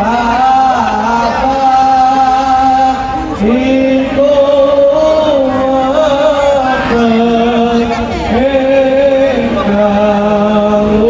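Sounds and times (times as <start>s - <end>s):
man chanting over loudspeakers: 0.0s - 11.0s.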